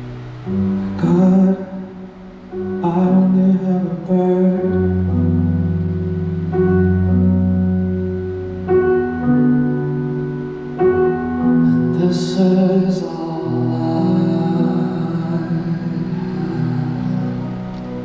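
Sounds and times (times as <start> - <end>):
slow live band music: 0.0 - 18.0.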